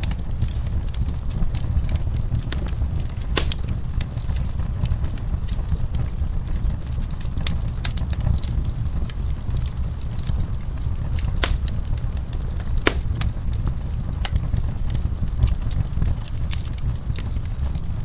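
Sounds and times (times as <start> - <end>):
fire crackles and pops: 0.0 - 18.0
fireplace fire rumbling: 0.0 - 18.0.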